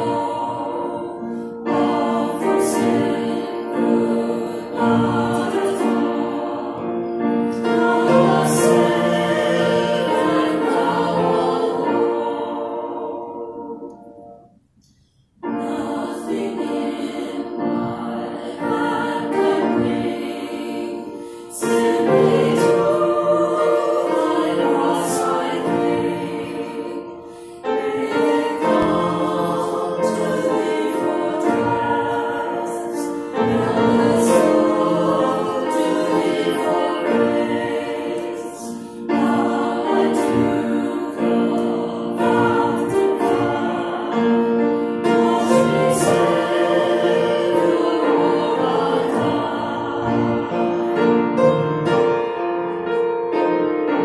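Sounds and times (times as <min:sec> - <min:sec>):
group singing a hymn: 0:00.0 - 0:14.6, 0:15.4 - 0:54.0
grand piano accompaniment: 0:00.0 - 0:54.0.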